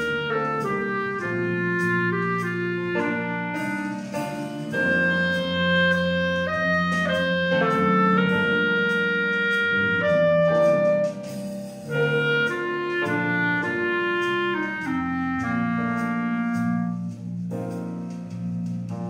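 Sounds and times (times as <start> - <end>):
clarinet melody: 0.0 - 19.0
lower accompaniment: 0.0 - 19.0.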